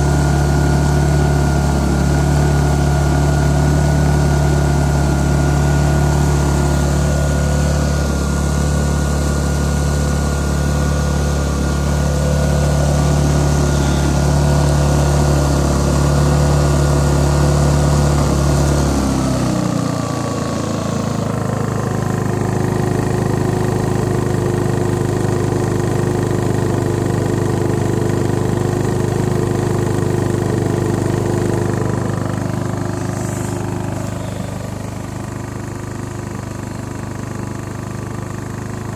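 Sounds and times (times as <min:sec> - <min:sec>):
generator engine running: 0:00.0 - 0:38.9.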